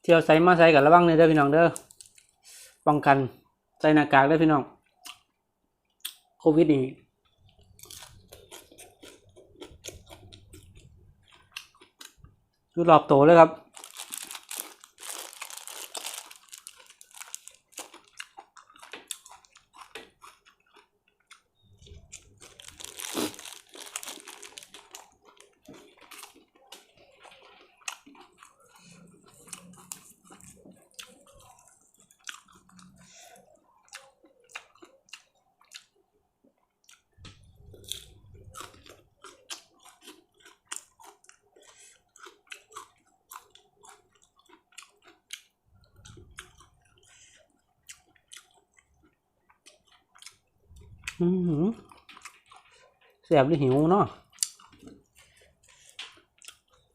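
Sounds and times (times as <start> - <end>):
person chewing: 4.8 - 6.4, 7.2 - 12.6, 13.6 - 53.3, 54.2 - 56.9.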